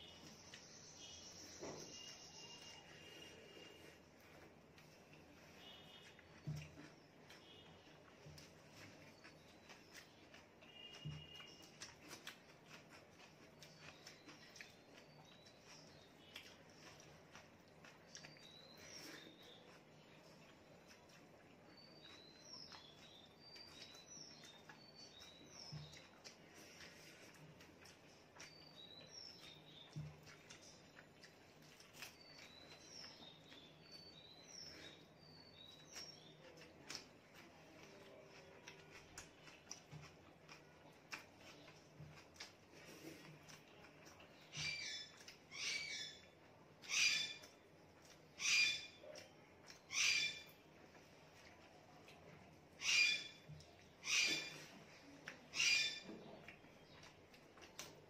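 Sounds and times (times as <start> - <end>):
chewing: 0.0 - 58.0
fingers mixing wet rice: 0.0 - 58.0.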